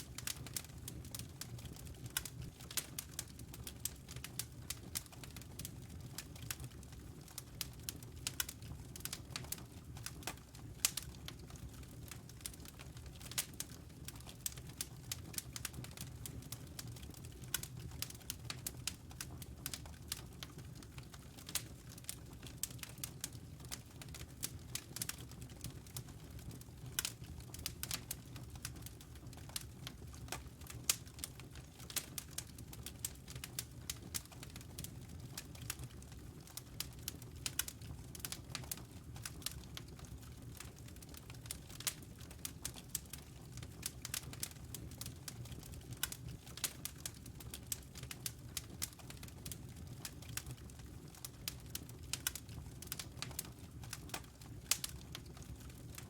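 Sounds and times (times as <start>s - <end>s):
low rumble of burning logs: 0.0s - 56.0s
wood fire crackling: 0.0s - 56.0s.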